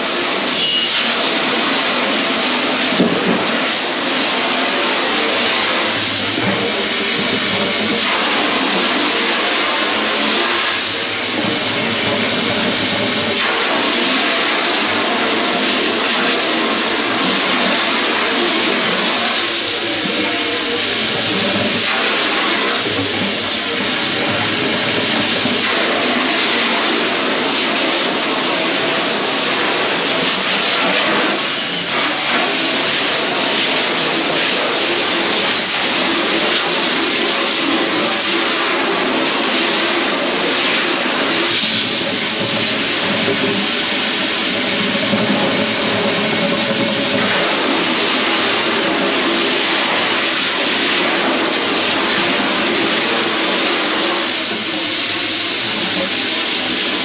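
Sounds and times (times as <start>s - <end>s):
dishwasher pump humming: 0.0s - 57.0s
water spraying and draining: 0.0s - 57.0s.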